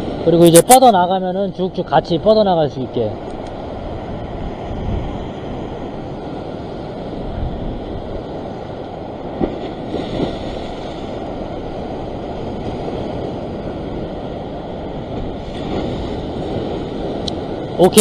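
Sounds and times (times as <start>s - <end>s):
ocean surf on rocks: 0.0s - 18.0s
wind buffeting microphone: 0.0s - 18.0s.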